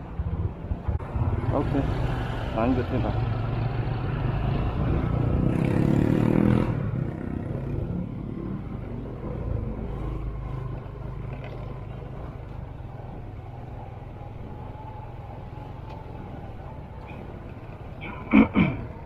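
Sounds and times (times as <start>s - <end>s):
traffic and road noise: 0.0s - 19.0s.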